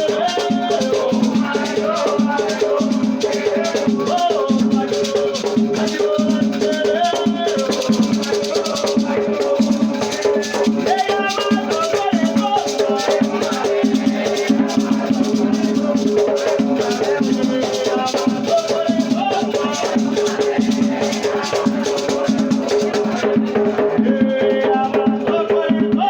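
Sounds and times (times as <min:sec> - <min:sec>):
shaken rattles: 0:00.0 - 0:23.3
drums beating: 0:00.0 - 0:26.0
voices singing: 0:00.0 - 0:26.0.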